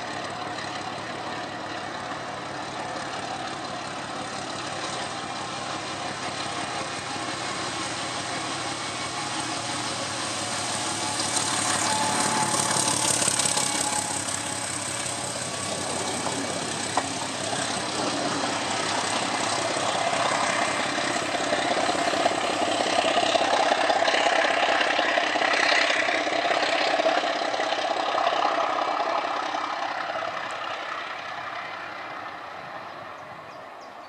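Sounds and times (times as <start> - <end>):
diesel locomotive running: 0.0 - 34.0
train coaches rolling on rails: 0.0 - 34.0.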